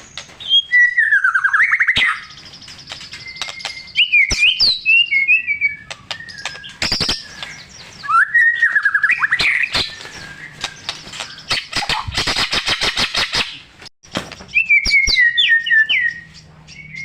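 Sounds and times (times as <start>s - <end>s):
bird singing whistled phrases: 0.1s - 12.1s, 14.5s - 17.0s.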